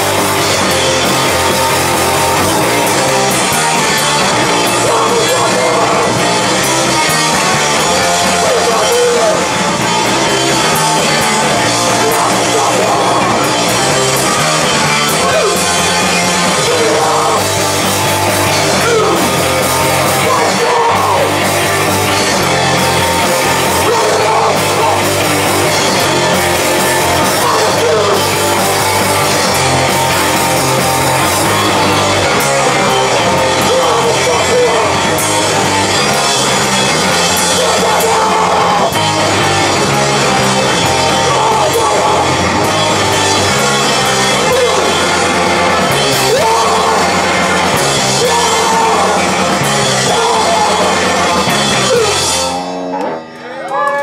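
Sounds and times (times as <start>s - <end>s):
drums: 0.0s - 54.0s
electric guitars: 0.0s - 54.0s.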